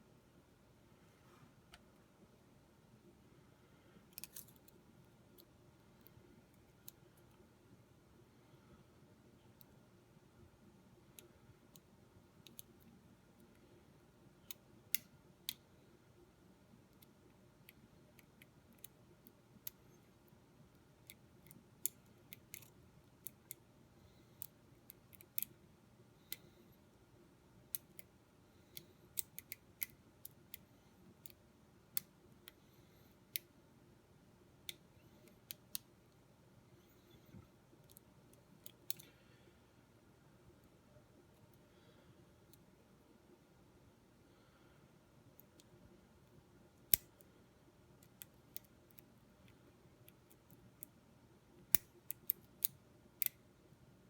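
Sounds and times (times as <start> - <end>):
faint room hiss: 0.0 - 54.0.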